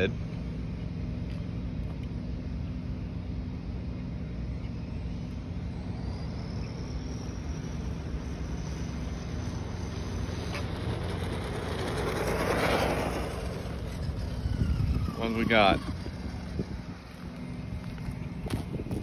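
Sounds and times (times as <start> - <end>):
electric motor whine: 0.0 - 19.0
steady low rumble: 0.0 - 19.0.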